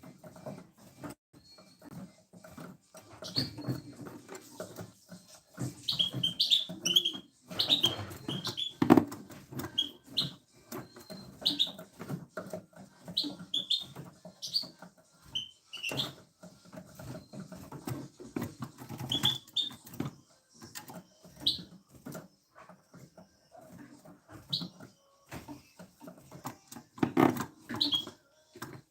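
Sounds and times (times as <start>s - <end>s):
small birds chirping: 1.4s - 28.9s.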